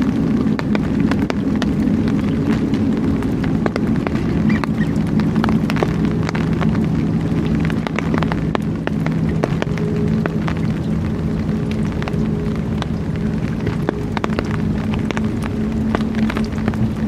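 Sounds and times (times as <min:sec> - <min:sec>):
crackling clicks: 0:00.0 - 0:17.0
low mechanical hum: 0:00.0 - 0:17.0.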